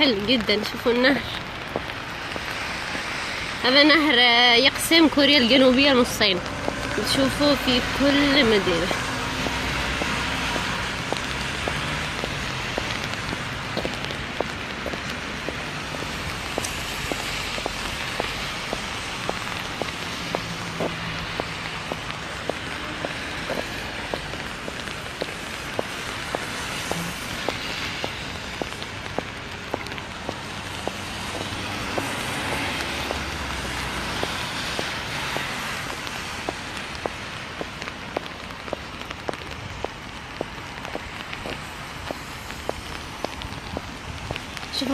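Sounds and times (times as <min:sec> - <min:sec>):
light footsteps walking: 0:00.0 - 0:03.3, 0:05.6 - 0:44.9
steady rain hiss: 0:00.0 - 0:44.9.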